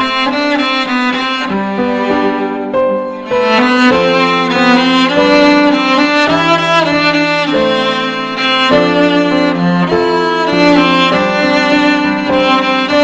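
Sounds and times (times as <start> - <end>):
violin melody: 0.0 - 13.0
sustained lower string notes: 1.7 - 13.0.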